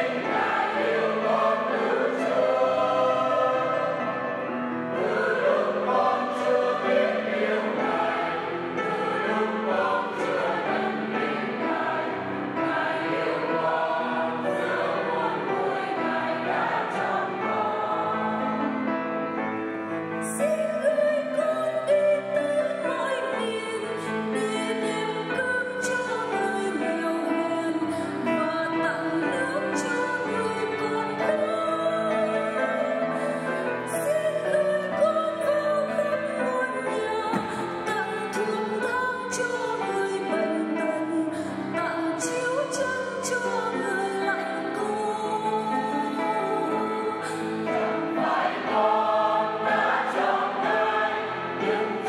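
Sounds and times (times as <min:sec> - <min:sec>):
choir singing in harmony: 0:00.0 - 0:52.0.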